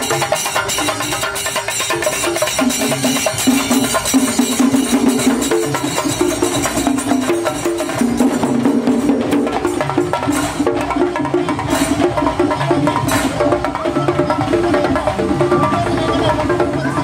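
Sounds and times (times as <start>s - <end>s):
fast busy percussion: 0.0s - 17.0s.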